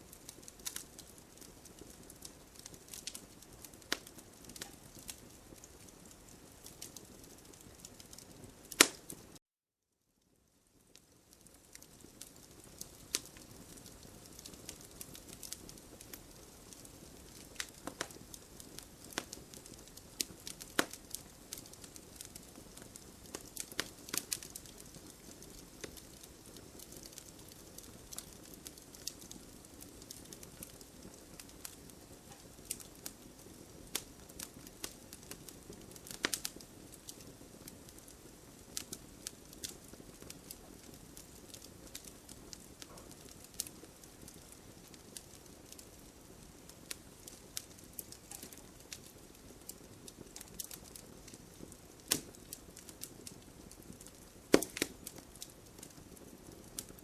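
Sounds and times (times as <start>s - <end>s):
burning wood crackling and popping: 0.0s - 9.4s, 10.3s - 57.0s
campfire hissing: 0.0s - 9.4s, 11.0s - 57.0s.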